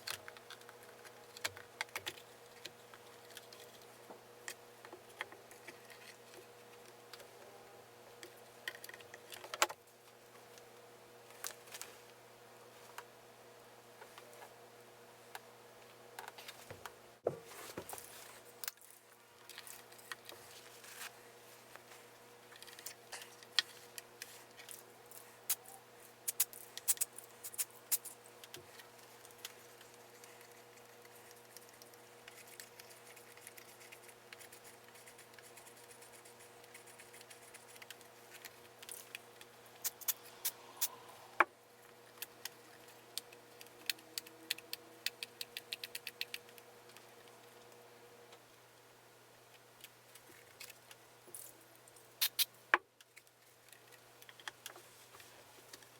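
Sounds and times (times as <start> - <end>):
steady electrical hum: 0.0 - 55.9.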